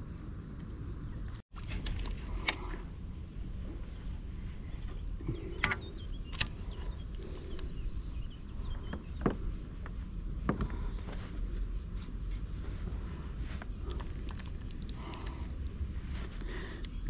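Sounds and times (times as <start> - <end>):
insects chirring: 1.0 - 17.0.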